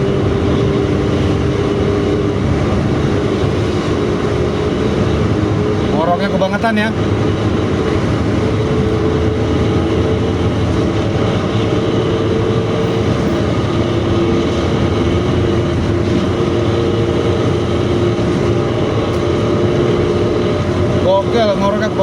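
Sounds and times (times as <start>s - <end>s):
bus exhaust deep growl: 0.0s - 22.0s
road noise: 0.0s - 22.0s.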